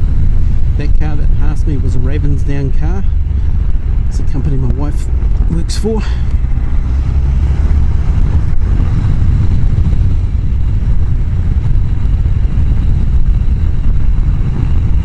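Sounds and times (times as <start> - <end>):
wind rumble on helmet microphone: 0.0 - 15.0.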